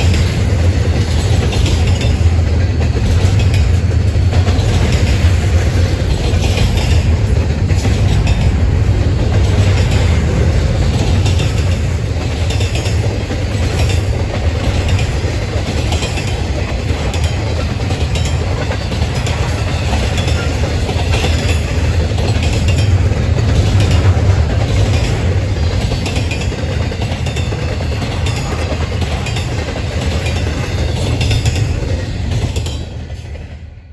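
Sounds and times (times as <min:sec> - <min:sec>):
wheels clicking over rail joints: 0:00.0 - 0:33.6
train rumbling past: 0:00.0 - 0:33.9.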